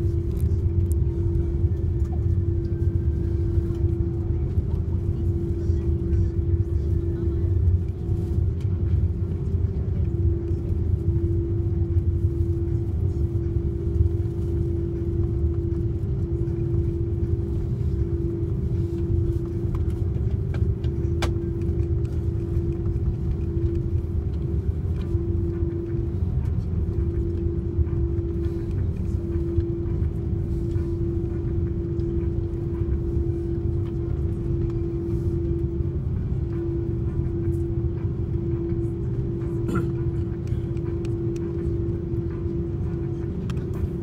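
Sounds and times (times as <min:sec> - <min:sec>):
jet engines idling low rumble: 0:00.0 - 0:44.0
pulsing hum: 0:00.0 - 0:44.0.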